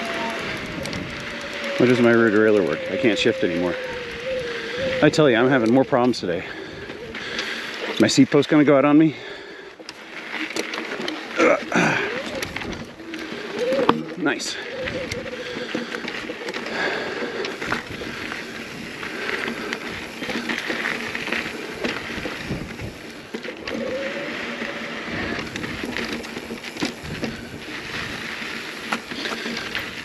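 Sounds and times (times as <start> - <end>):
bike rattling over bumps: 0.0 - 30.0
bike tyres on dirt trail: 0.0 - 30.0.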